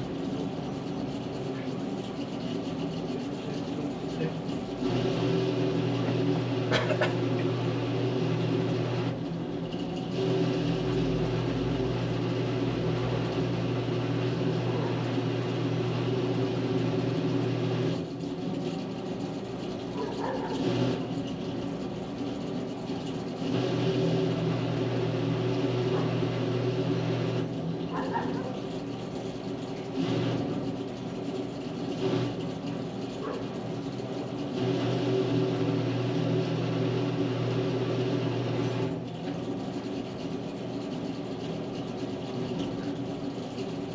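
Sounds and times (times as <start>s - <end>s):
welder electrical hum: 0.0s - 43.9s.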